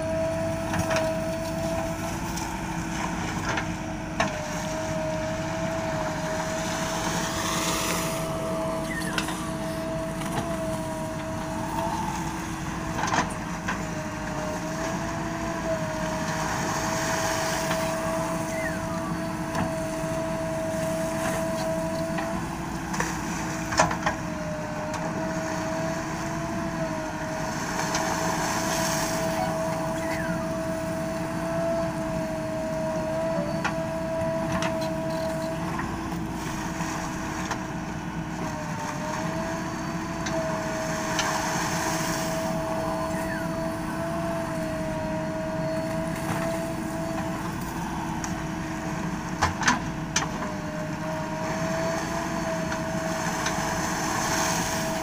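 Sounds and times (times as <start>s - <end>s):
diesel engine and hydraulic whine: 0.0s - 55.0s.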